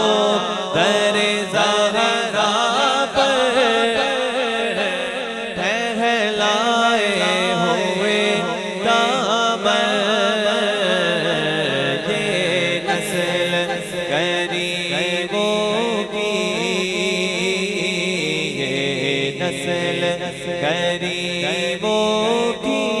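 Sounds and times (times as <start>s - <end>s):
person singing with echo: 0.0s - 23.0s.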